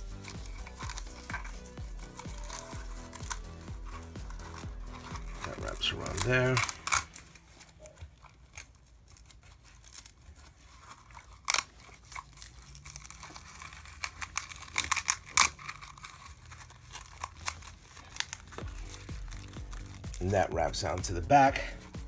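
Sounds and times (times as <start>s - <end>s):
fabric crinkling and rustling: 0.0s - 22.0s.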